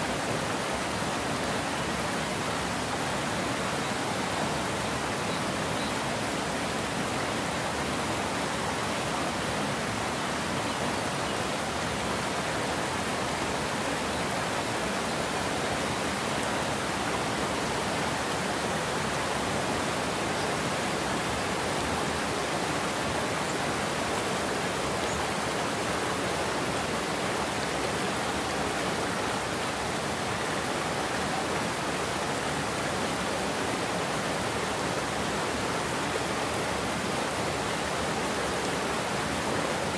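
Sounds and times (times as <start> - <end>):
water rushing over a weir: 0.0 - 39.9.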